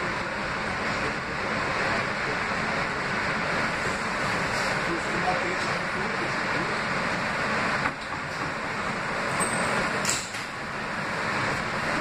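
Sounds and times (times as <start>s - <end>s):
subway car running on rails: 0.0s - 12.0s.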